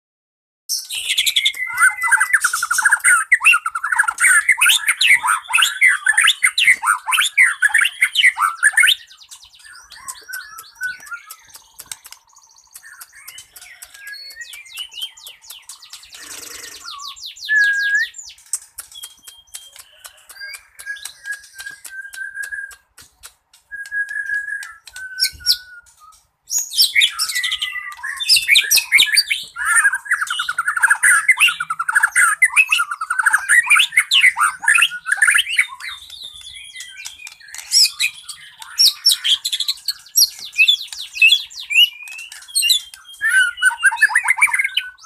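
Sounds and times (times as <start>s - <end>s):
bird singing varied song: 0.7s - 45.0s.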